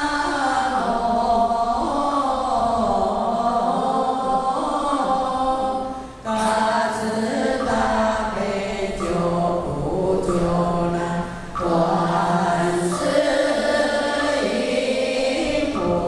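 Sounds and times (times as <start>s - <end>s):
children chanting in unison: 0.0s - 16.0s.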